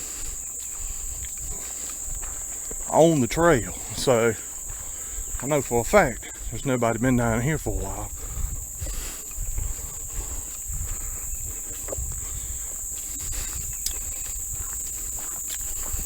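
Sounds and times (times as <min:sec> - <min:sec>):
footsteps on a trail: 0:00.0 - 0:16.0
insect chorus: 0:00.0 - 0:16.0.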